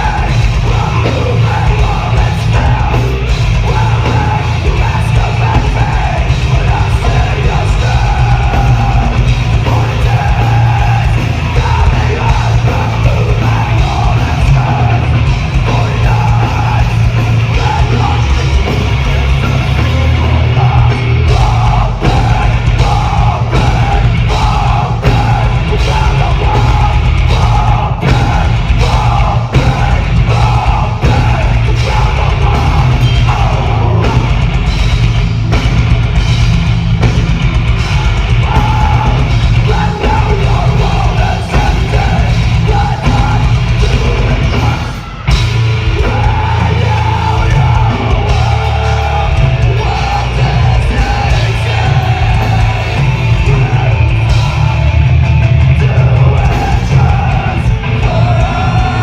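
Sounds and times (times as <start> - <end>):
metal band playing: 0.0 - 59.0.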